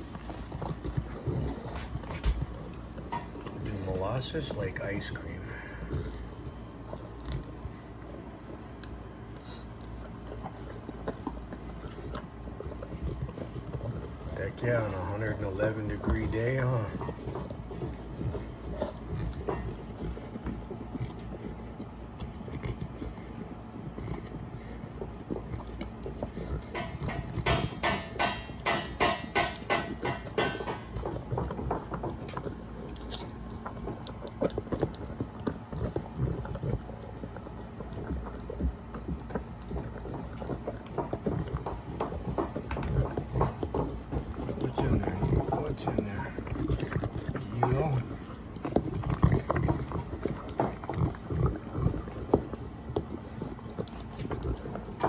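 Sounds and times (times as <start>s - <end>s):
dog lapping and licking: 0.0s - 55.0s.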